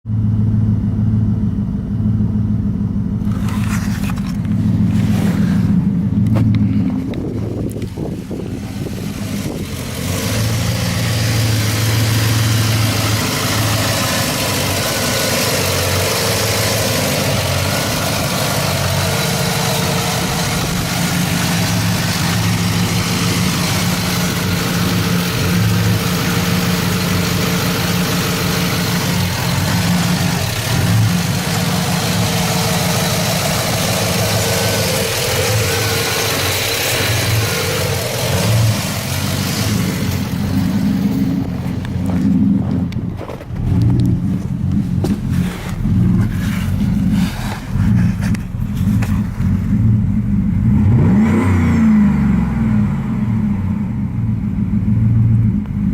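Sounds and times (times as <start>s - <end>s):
truck engine idling: 0.1s - 51.6s.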